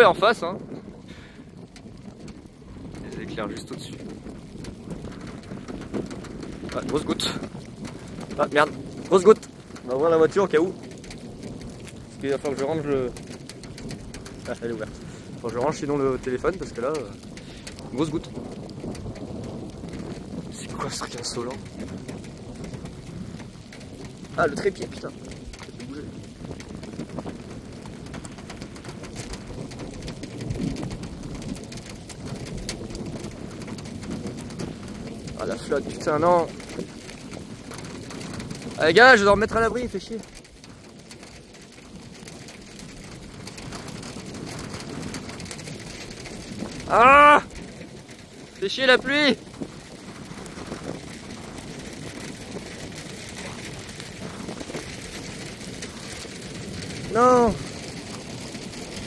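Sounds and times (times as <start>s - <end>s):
rain noise: 0.0s - 59.0s
raindrops pattering: 0.0s - 59.0s.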